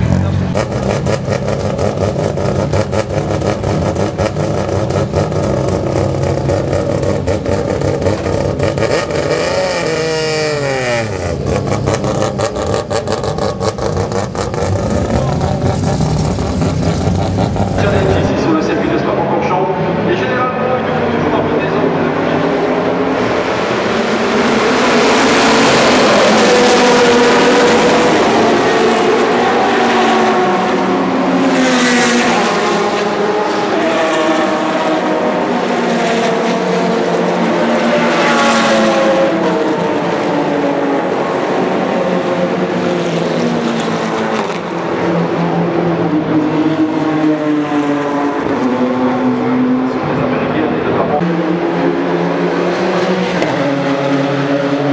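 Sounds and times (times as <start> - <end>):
race car engines revving: 0.0 - 54.9
race car passing by: 8.2 - 54.9.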